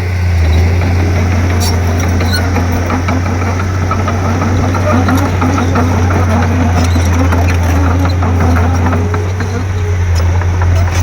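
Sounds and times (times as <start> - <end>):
bulldozer diesel engine droning: 0.0 - 11.0.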